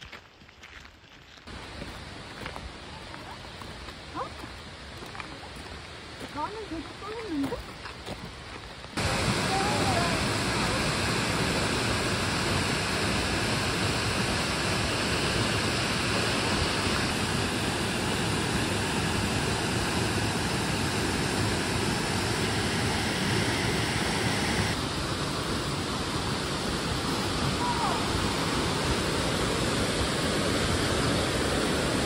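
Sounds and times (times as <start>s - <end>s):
waterfall rushing into pool: 1.5s - 7.7s, 8.9s - 32.0s.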